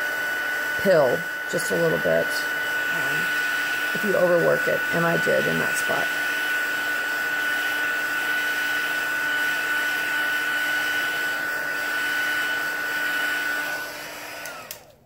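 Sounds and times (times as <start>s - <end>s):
heat gun blowing with whine: 0.0s - 15.0s.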